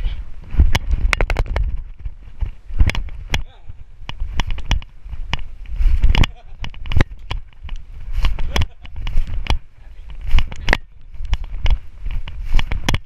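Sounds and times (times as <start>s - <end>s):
camera handling knocks and clicks: 0.7s - 1.8s, 2.8s - 5.4s, 6.1s - 13.0s.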